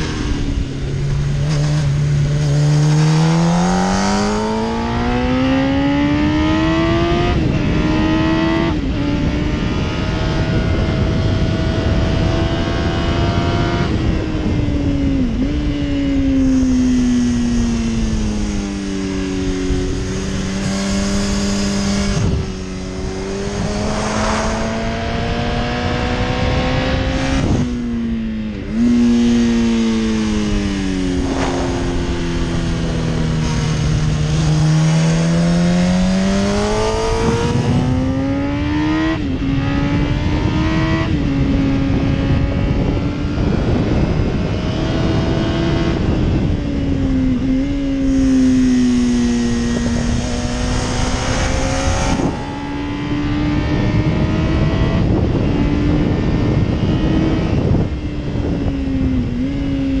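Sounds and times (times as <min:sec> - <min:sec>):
motorcycle engine running hard: 0:00.0 - 1:00.0
wind rush: 0:00.0 - 1:00.0.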